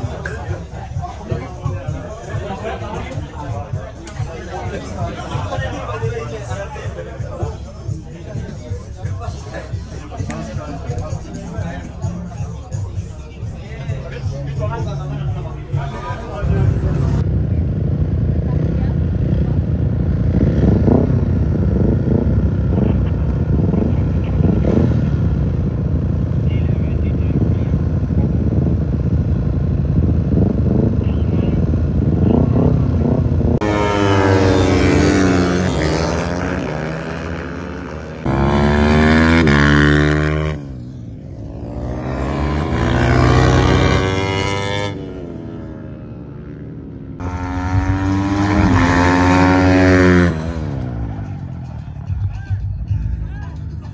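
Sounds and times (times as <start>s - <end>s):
motorcycle engines running: 0.0s - 53.9s.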